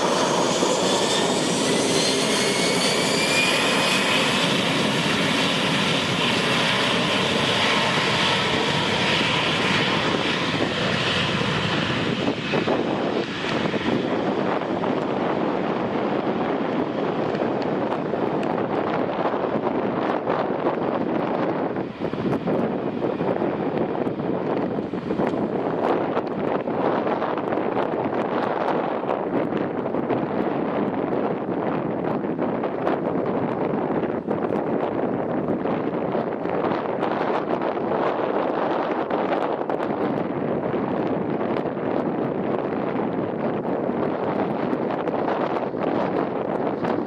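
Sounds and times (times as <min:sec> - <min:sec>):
jet engine roar: 0:00.0 - 0:47.0
jet engine whine: 0:00.0 - 0:47.0.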